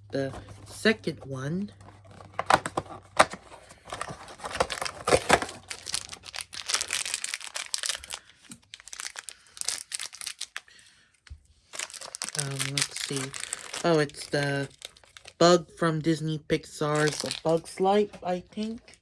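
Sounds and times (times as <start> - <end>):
plastic packaging crinkling: 0.2 - 10.9, 11.6 - 15.5, 16.8 - 19.0.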